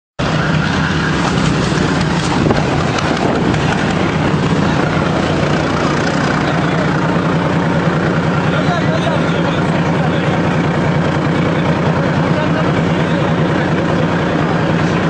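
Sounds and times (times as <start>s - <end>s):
armoured vehicle engine drone: 0.2s - 15.0s.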